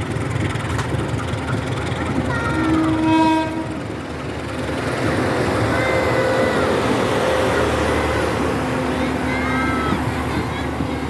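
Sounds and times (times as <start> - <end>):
locomotive engine rumble: 0.0 - 11.0.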